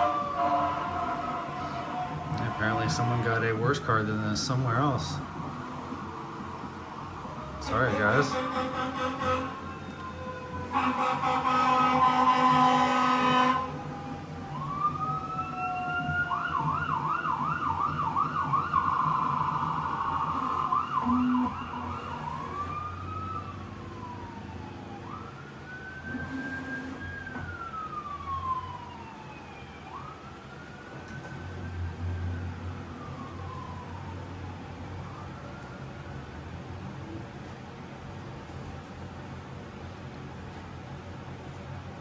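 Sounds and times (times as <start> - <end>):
emergency vehicle siren: 0.0 - 39.6.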